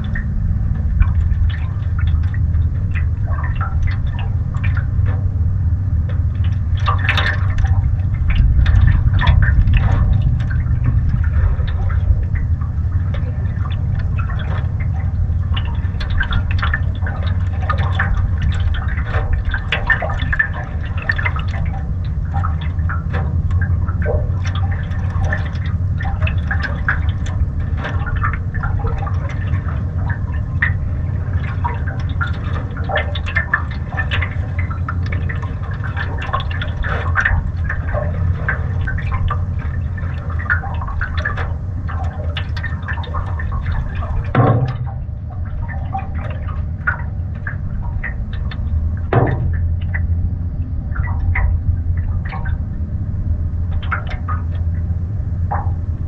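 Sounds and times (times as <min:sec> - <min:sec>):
water lapping against canoe hull: 0:00.0 - 0:56.0
wind buffeting microphone: 0:00.0 - 0:56.0.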